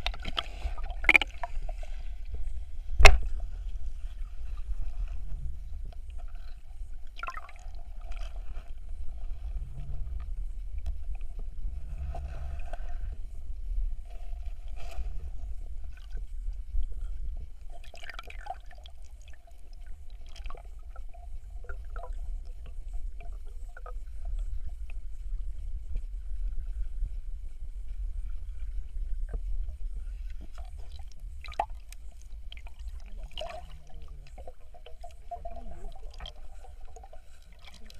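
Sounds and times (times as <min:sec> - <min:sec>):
faint clicks and crackles: 0:00.0 - 0:37.9
muffled underwater rumble: 0:00.0 - 0:37.9.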